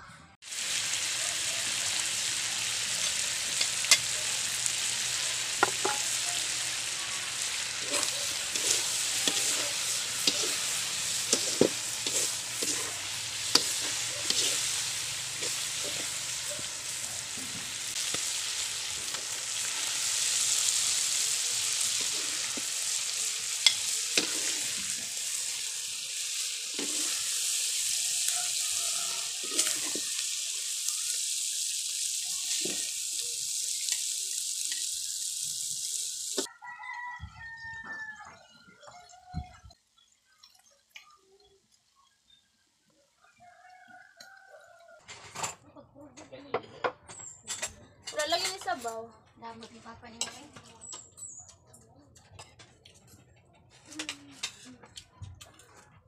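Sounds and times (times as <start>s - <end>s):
livers sizzling in a wok: 0.4s - 45.6s, 47.0s - 51.5s, 52.3s - 55.1s.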